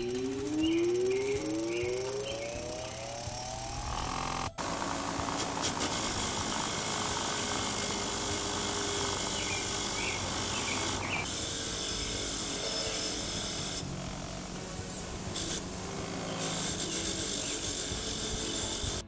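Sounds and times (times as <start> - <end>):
bench grinder grinding metal: 0.0 - 19.0.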